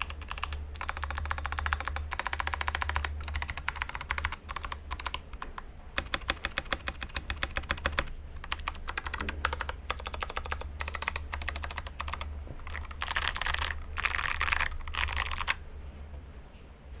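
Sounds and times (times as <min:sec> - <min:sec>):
mechanical keyboard typing: 0:00.0 - 0:15.6.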